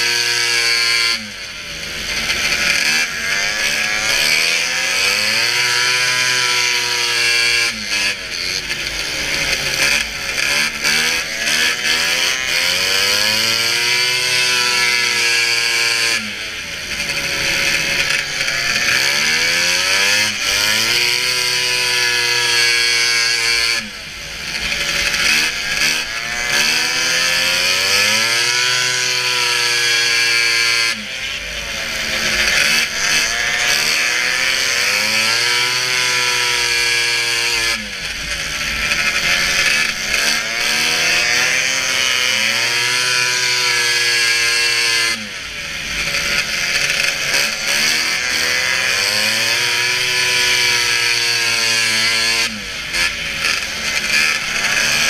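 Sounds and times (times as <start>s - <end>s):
snowmobile engine revving hard: 0.0s - 55.0s.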